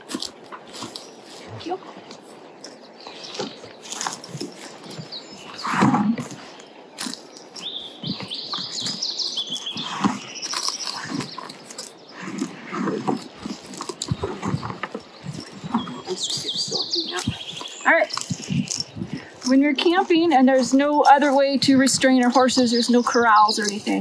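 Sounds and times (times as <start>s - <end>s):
gear and rope rustling: 0.0s - 24.0s
small bird chirping: 2.5s - 24.0s.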